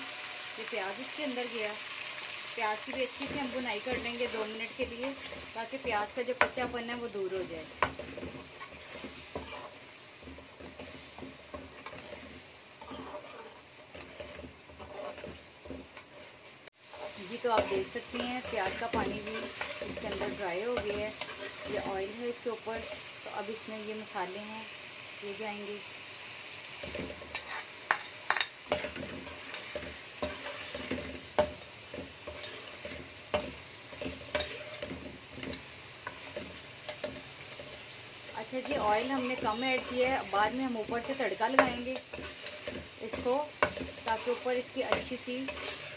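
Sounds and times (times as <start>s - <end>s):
food sizzling in oil: 0.0s - 45.9s
metal spoon scraping a pan: 2.2s - 24.2s, 26.8s - 45.9s.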